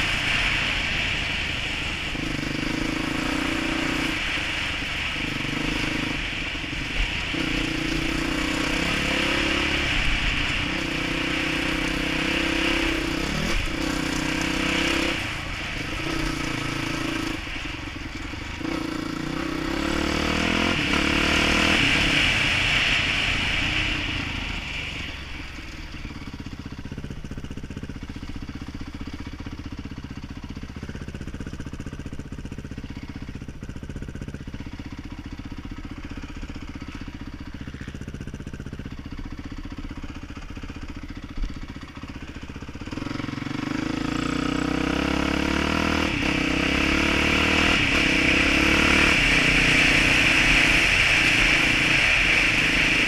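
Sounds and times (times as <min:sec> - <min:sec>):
dirt bike engine revving: 0:00.0 - 0:28.4, 0:31.0 - 0:53.0.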